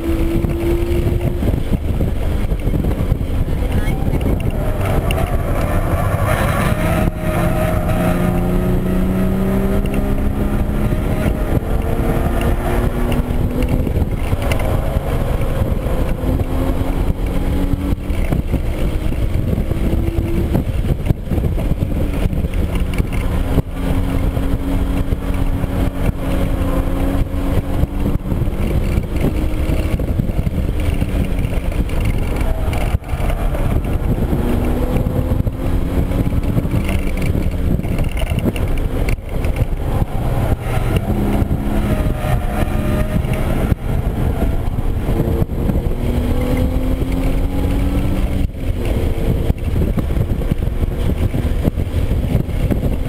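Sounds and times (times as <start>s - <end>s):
car engine accelerating: 0.0s - 53.0s
wind and road noise: 0.0s - 53.0s.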